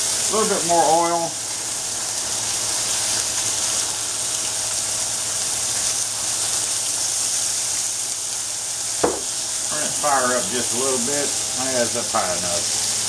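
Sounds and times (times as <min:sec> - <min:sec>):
steaks sizzling in grill pan: 0:00.0 - 0:13.0.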